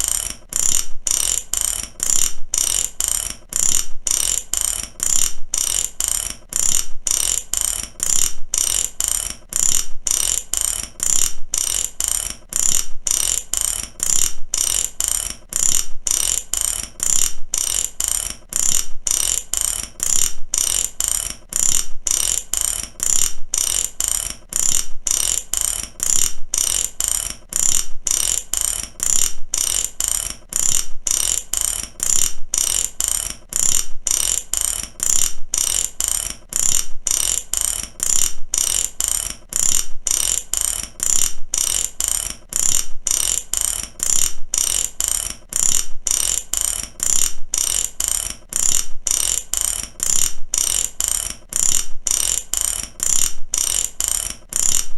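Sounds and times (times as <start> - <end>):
ratchet wrench clicking: 0.0 - 54.9.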